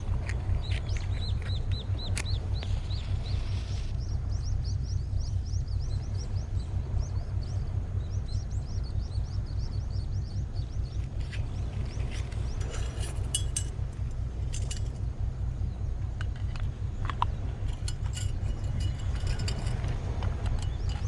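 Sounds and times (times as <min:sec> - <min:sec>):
small birds chirping: 0:00.0 - 0:19.8, 0:20.4 - 0:21.0
steady low rumble: 0:00.0 - 0:21.0.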